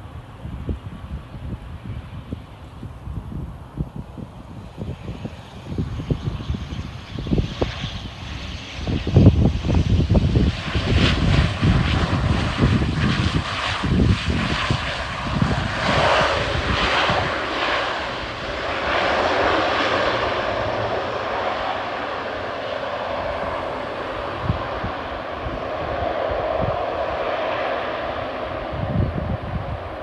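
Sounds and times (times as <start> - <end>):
airliner engines running: 0.0 - 30.0.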